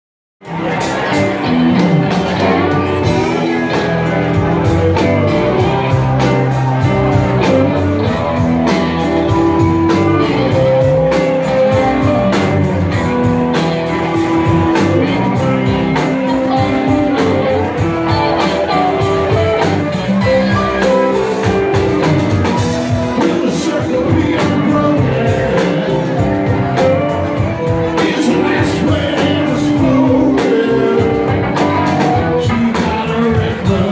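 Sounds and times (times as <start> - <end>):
drum kit beat: 0.4 - 33.9
electric guitars: 0.4 - 33.9.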